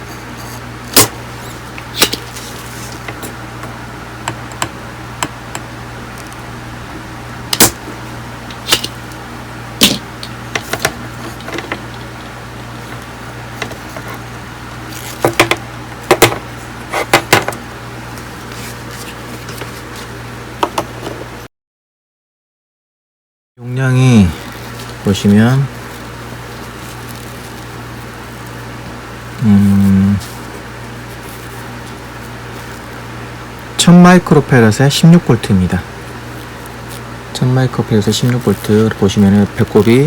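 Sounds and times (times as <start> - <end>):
steady low hum: 0.0 - 21.4, 23.6 - 40.0.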